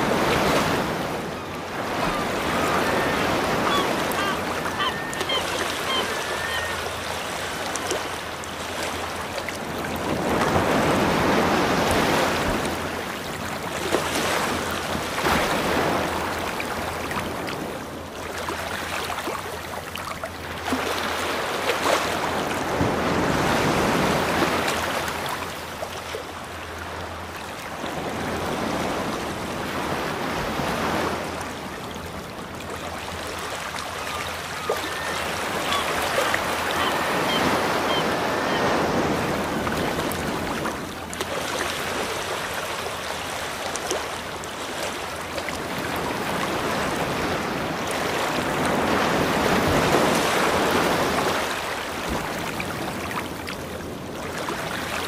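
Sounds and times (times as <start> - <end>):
ocean waves: 0.0 - 55.0.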